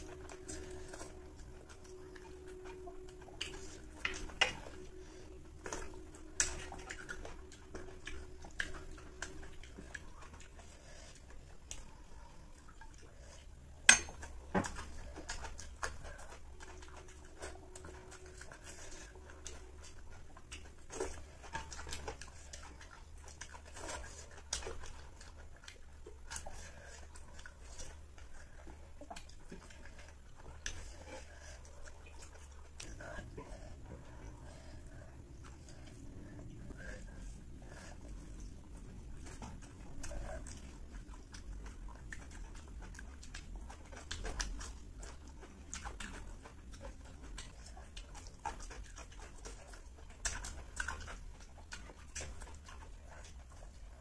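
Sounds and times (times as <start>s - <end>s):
soft chewing: 0.0s - 54.0s.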